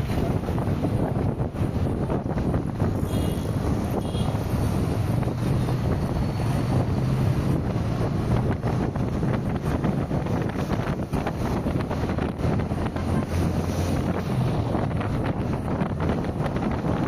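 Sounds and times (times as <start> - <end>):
car road noise rumble: 0.0 - 17.0
wind buffeting microphone: 0.0 - 17.0.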